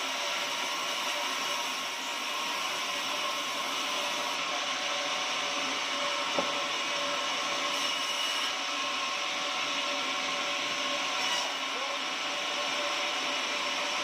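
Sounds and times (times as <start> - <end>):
sawmill hiss and whine: 0.0 - 14.0.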